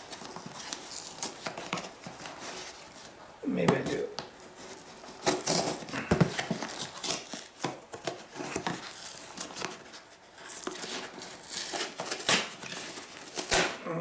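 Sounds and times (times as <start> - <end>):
package rustling and crinkling: 0.0 - 13.8.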